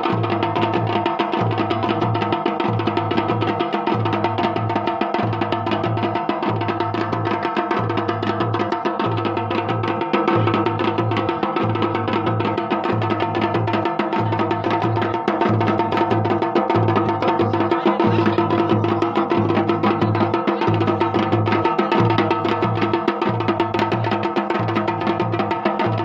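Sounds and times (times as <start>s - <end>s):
drums playing fast rhythm: 0.0s - 26.0s.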